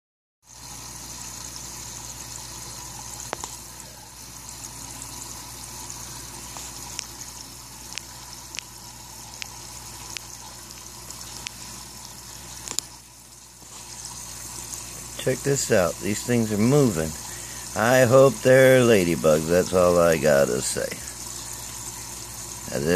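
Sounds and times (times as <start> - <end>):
water trickling: 0.4 - 22.9
low steady hum: 0.6 - 22.9.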